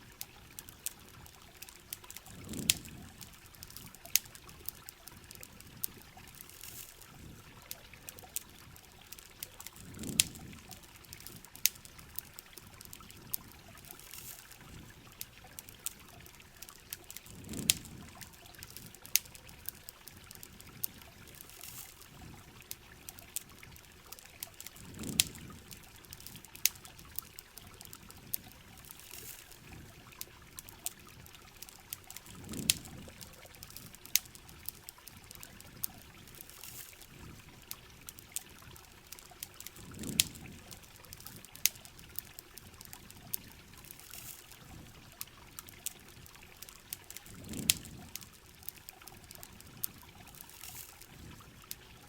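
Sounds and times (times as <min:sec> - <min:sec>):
campfire crackling: 0:00.0 - 0:52.0
heavy rain on camping shell: 0:00.0 - 0:52.0.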